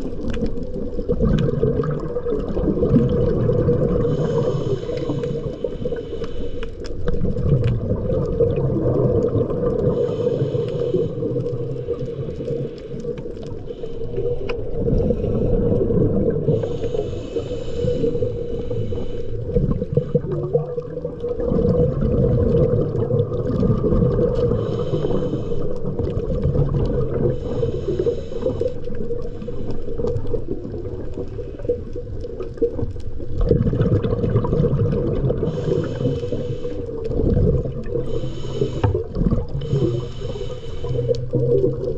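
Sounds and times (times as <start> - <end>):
low underwater hum and rumble: 0.0 - 41.9
underwater bubbling exhaled air: 0.0 - 41.9.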